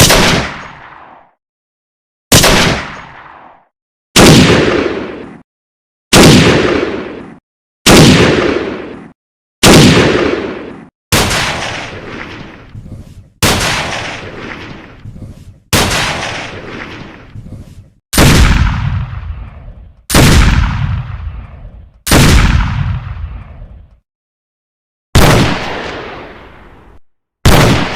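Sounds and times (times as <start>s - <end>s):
gunshots with echoing tail: 0.0s - 1.4s, 2.3s - 5.4s, 6.1s - 24.0s, 25.2s - 27.9s.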